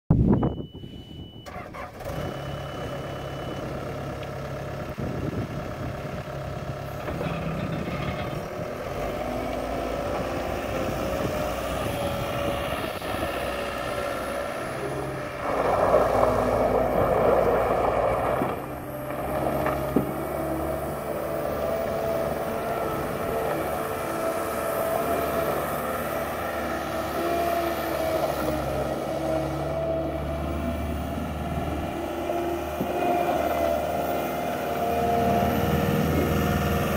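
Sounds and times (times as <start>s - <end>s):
diesel engine running: 0.2s - 36.9s.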